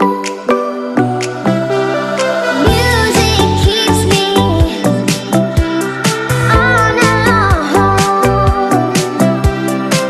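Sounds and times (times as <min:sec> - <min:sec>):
electronic dance music: 0:01.2 - 0:10.0.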